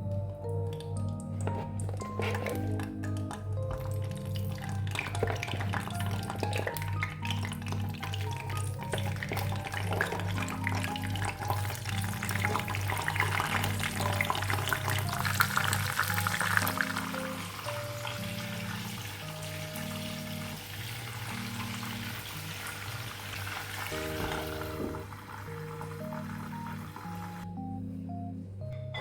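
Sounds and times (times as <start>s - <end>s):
background music with steady beat: 0.0s - 29.0s.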